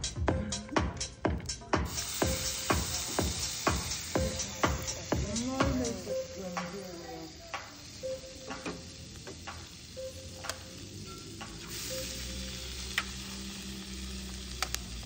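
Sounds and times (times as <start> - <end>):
eggs sizzling in a frying pan: 1.8 - 15.0.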